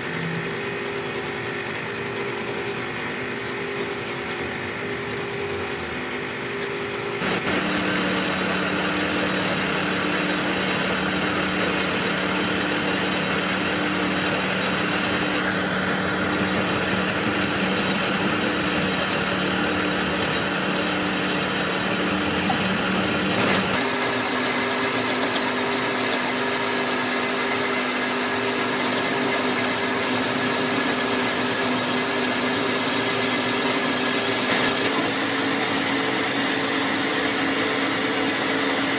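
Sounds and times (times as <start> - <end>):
machine motor humming: 0.0 - 38.9.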